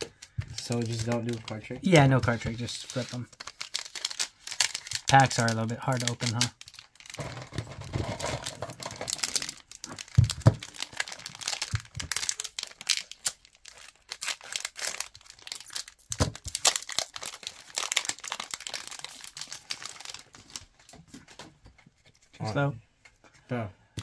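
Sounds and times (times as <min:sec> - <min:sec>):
plastic wrapper crinkling: 0:00.0 - 0:22.3.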